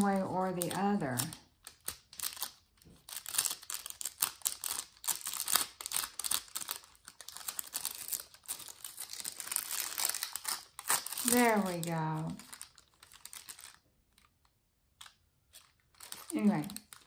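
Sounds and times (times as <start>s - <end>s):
plastic foil crinkling: 0.0s - 17.0s.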